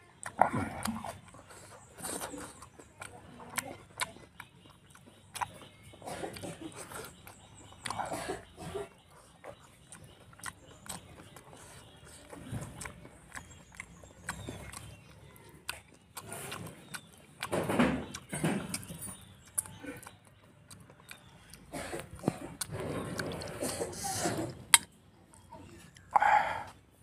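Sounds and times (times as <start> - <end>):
wet chewing and lip smacking: 0.0 - 27.0.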